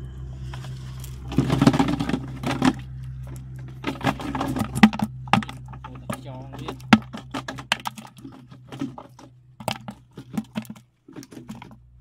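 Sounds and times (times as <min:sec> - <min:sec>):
plastic trap rattling and scraping: 0:00.5 - 0:12.0
fish flapping in plastic bucket: 0:01.1 - 0:11.9.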